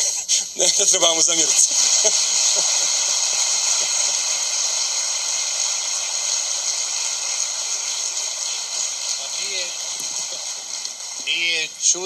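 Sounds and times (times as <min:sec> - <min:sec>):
recording noise hiss: 0:00.0 - 0:12.0.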